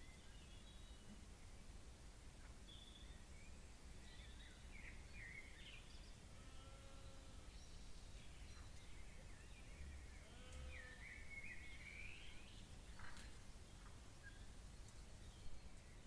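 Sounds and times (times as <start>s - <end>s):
low background noise: 0.0s - 16.0s
night birds calling: 2.4s - 16.0s.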